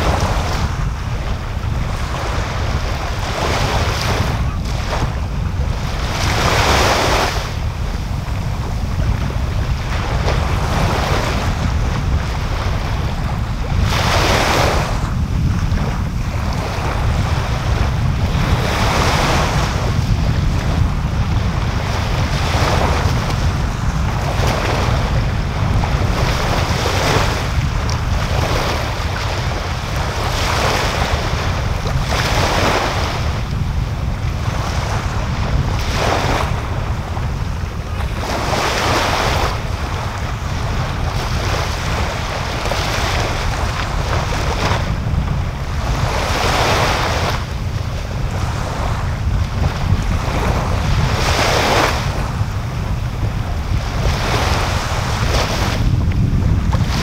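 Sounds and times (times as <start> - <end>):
small waves washing onto beach: 0.0 - 57.0
steady low rumble: 0.0 - 57.0.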